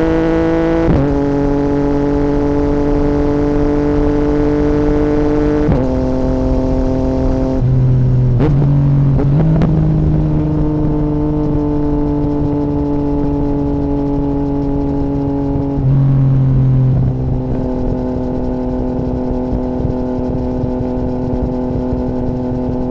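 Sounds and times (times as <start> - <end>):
loud motorcycle engine: 0.0 - 22.9.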